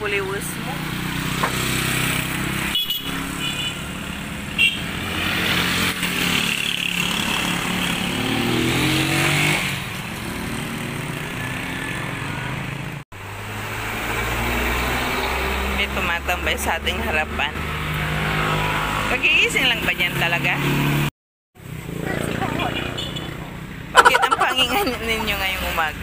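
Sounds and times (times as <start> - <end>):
motorcycles passing by: 0.0 - 26.0.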